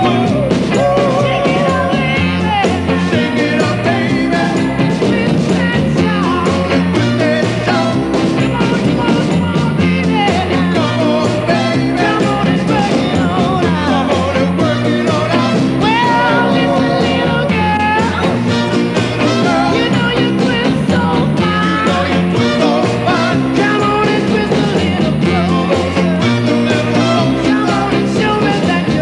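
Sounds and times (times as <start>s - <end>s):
rock music: 0.0s - 29.0s.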